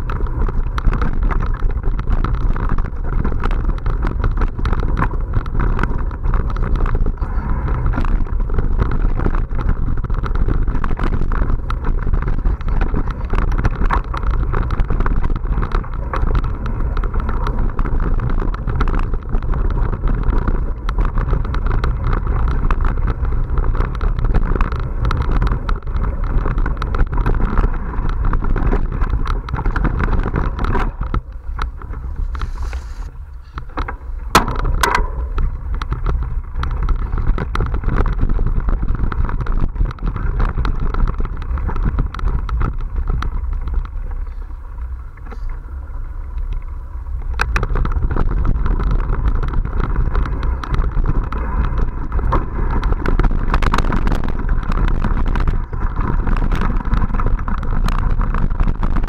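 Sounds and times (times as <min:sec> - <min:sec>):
bike rattles and knocks: 0:00.0 - 0:59.0
tyre rumble: 0:00.0 - 0:59.0
wind buffeting microphone: 0:00.0 - 0:59.0.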